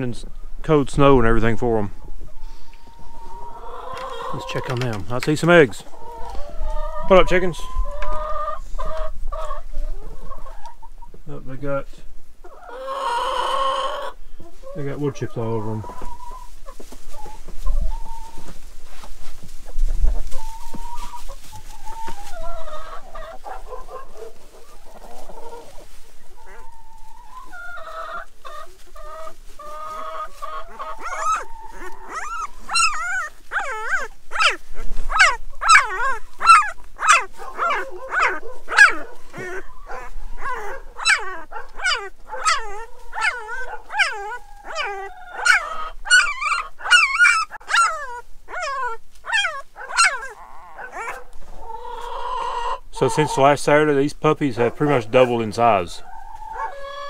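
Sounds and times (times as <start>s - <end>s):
hens clucking: 0.0s - 11.8s, 12.4s - 57.0s
puppies squealing and whining: 2.1s - 10.9s, 12.5s - 18.6s, 19.7s - 57.0s.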